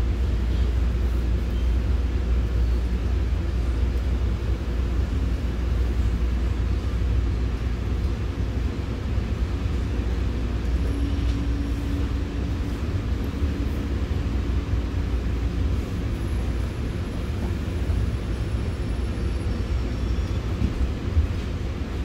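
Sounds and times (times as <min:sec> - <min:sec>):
train rumbling on track: 0:00.0 - 0:22.0.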